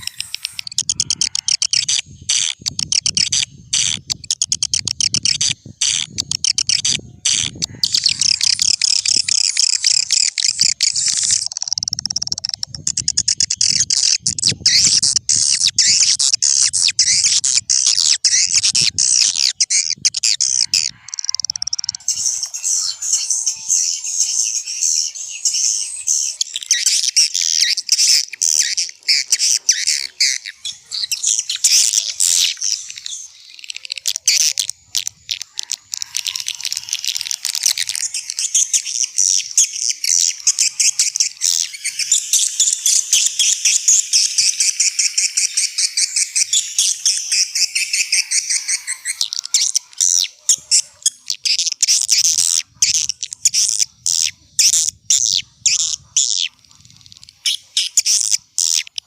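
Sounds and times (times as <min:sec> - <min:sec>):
swiftlets twittering: 0:00.0 - 0:54.8.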